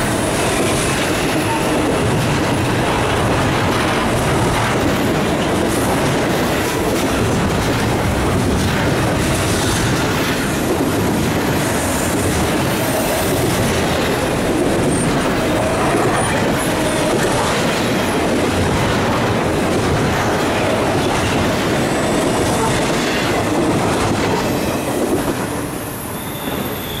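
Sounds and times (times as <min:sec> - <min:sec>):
train wheels rolling on rails: 0:00.0 - 0:27.0.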